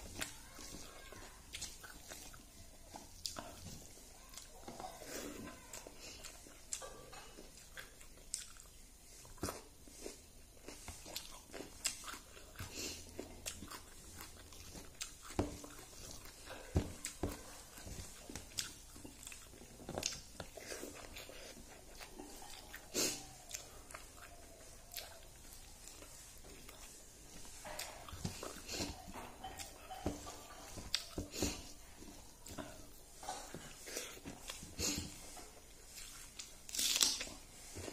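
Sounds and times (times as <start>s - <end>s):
person chewing and smacking: 0.0s - 37.9s.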